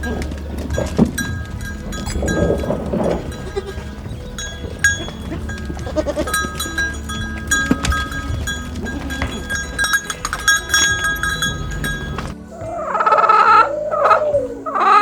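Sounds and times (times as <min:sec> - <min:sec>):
low steady rumble: 0:00.0 - 0:12.4
livestock bells clinking: 0:00.0 - 0:13.4.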